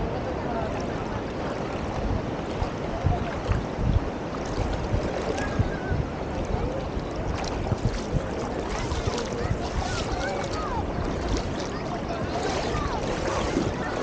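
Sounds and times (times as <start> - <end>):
beach surf: 0.0 - 14.0
faint voices: 0.0 - 14.0
wind buffeting microphone: 0.0 - 14.0.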